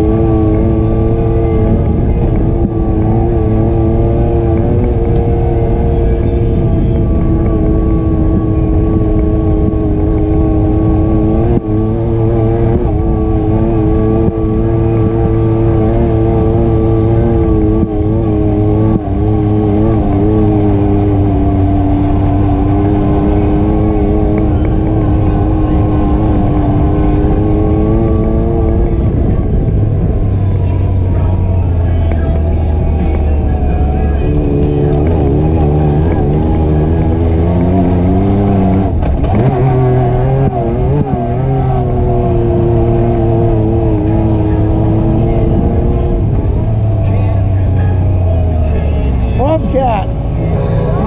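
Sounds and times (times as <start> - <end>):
atv engine running: 0.0 - 51.0
heavy low rumble: 0.0 - 51.0.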